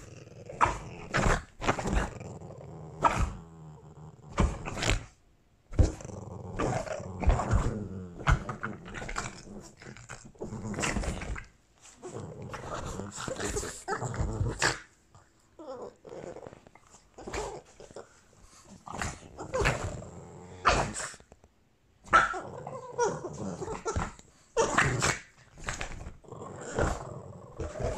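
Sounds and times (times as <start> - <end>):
dogs growling: 0.0 - 21.3, 22.2 - 27.9.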